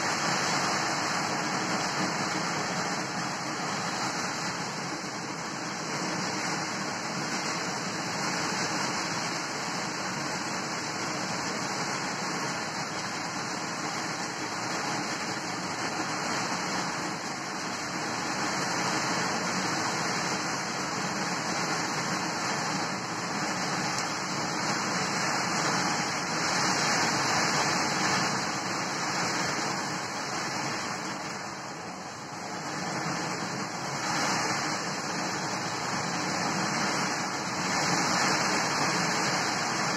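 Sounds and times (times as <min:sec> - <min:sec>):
heavy rain rushing: 0:00.0 - 0:39.9.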